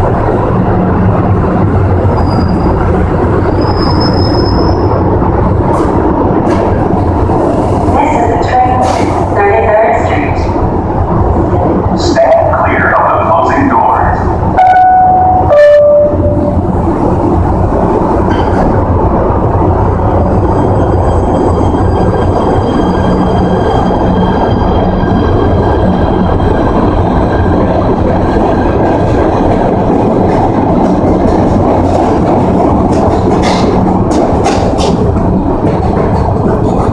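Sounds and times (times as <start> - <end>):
subway train rumbling on rails: 0.0 - 36.9.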